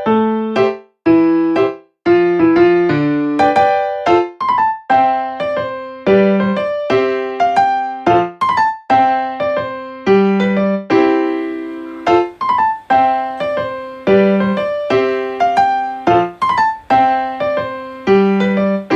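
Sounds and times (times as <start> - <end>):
gentle piano melody: 0.0 - 18.9.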